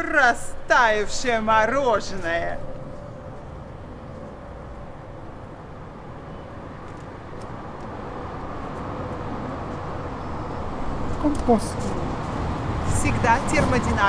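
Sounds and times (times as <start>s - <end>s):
street ambience rumble: 0.0s - 14.0s.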